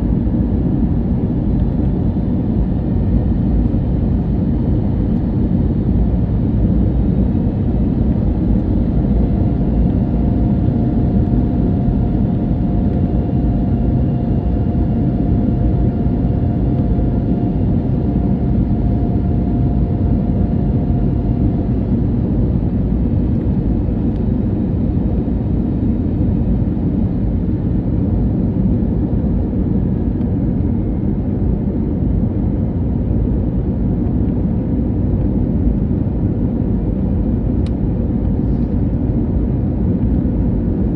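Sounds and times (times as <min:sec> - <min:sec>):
faint steady hum: 0:00.0 - 0:40.9
jet engine rumble: 0:00.0 - 0:40.9.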